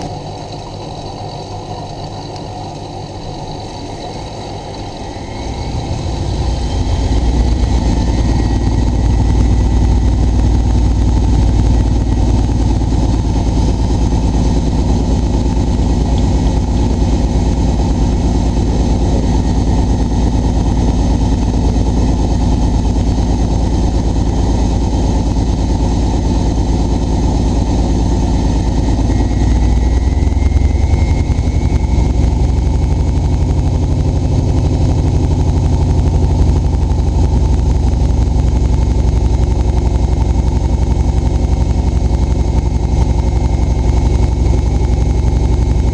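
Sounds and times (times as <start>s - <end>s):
washing machine running: 0.0s - 45.9s.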